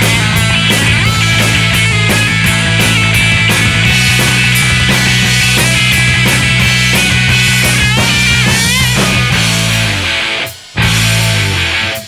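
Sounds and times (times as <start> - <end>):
bass guitar: 0.0 - 12.0
distorted electric guitar: 0.0 - 12.0
drum kit beat: 0.0 - 12.0.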